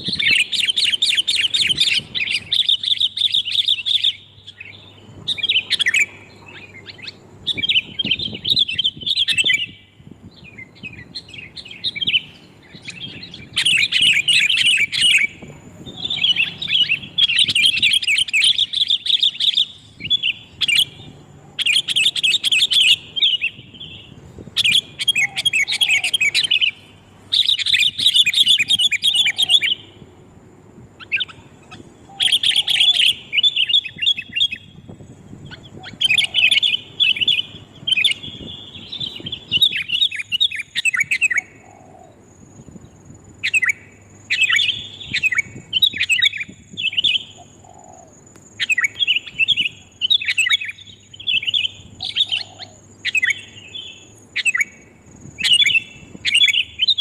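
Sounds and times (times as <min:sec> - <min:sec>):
bird chattering calls: 0:00.0 - 0:30.0, 0:31.0 - 0:42.4, 0:43.4 - 0:57.0.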